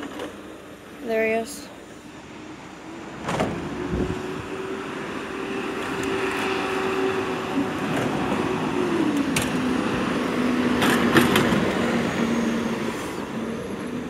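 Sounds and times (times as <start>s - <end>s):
heavy diesel engines running: 0.0s - 14.0s.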